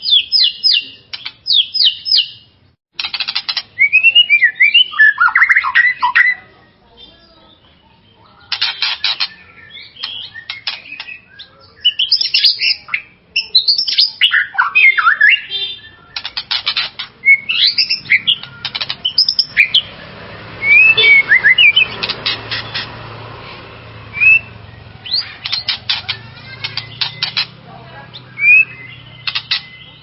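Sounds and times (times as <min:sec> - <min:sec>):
bird singing: 0:00.0 - 0:30.0.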